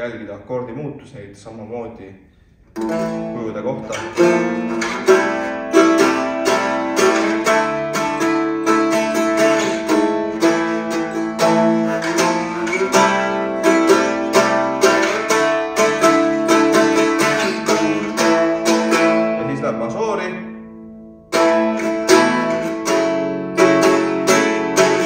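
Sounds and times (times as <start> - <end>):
mandolin strumming chords: 2.7 - 25.0.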